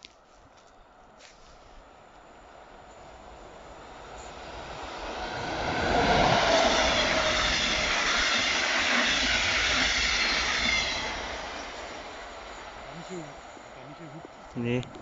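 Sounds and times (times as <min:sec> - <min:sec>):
train passing at speed: 0:00.8 - 0:15.0.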